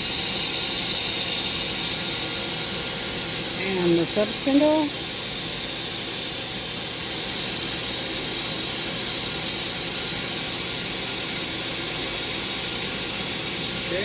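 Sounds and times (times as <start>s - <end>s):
lathe machine hiss: 0.0s - 14.0s.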